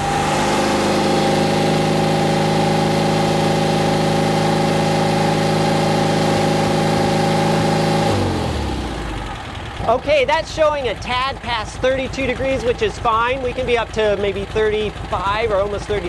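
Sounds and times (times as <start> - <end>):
engine running at steady revs: 0.0 - 16.0.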